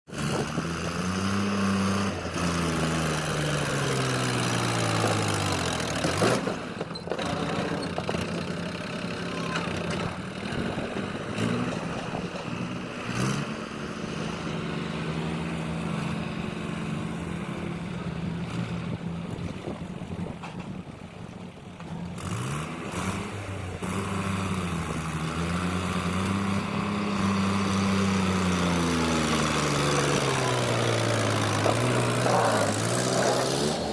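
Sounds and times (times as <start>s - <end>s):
tractor engine revving: 0.1s - 20.7s, 21.5s - 33.9s.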